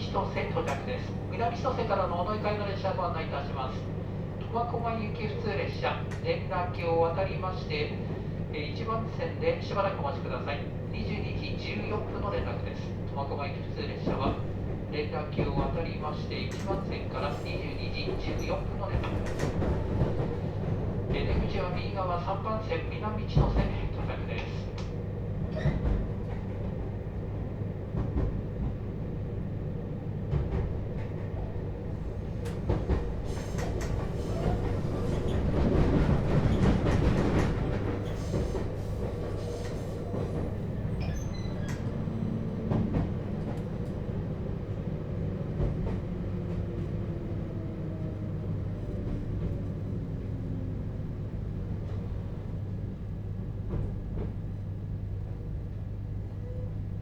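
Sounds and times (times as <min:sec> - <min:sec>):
train wheel and track rumble: 0:00.0 - 0:57.0.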